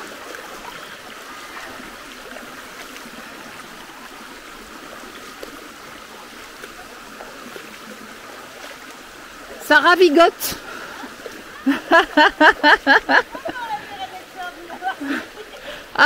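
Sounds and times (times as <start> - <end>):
river running over pebbles: 0.0 - 16.0.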